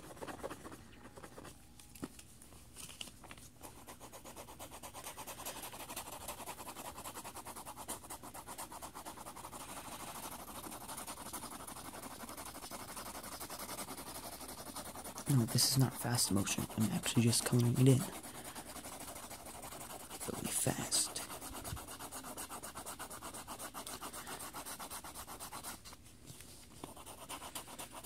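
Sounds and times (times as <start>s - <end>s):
pencil scratching on paper: 0.0s - 1.6s, 3.6s - 26.0s, 26.8s - 28.0s.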